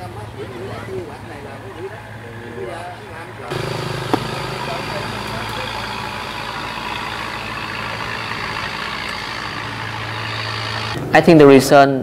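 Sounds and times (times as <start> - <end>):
engine humming: 0.0 - 11.2
outdoor background noise: 0.0 - 12.0.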